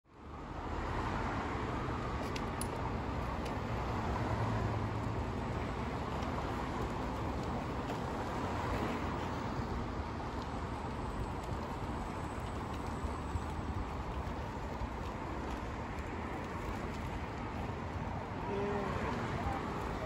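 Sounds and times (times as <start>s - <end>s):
road traffic hum: 0.1s - 20.0s.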